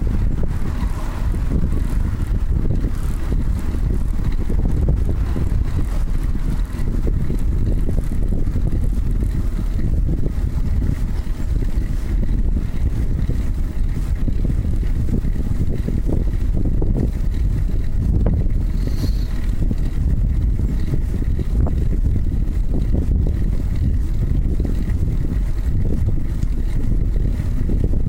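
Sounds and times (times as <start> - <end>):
bicycle tyres on pavement: 0.0 - 28.0
wind buffeting microphone: 0.0 - 28.0.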